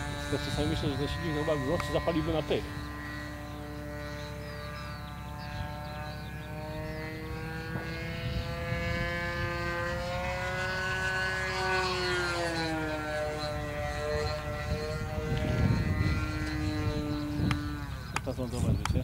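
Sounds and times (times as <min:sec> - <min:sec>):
model plane engine and propeller: 0:00.0 - 0:19.0.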